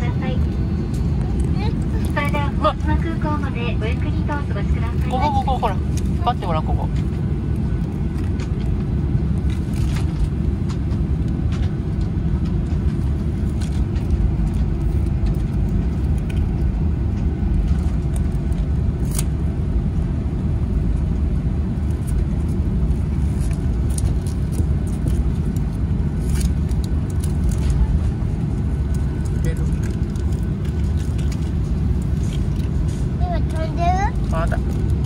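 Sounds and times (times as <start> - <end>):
jet engine low rumble: 0.0 - 35.0.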